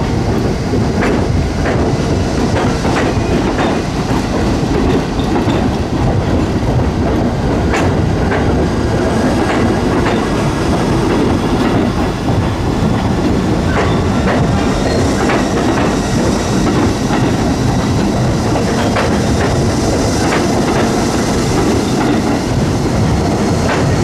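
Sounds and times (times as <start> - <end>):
subway train rumbling on track: 0.0 - 24.0
wheels clacking over rail joints: 0.9 - 24.0.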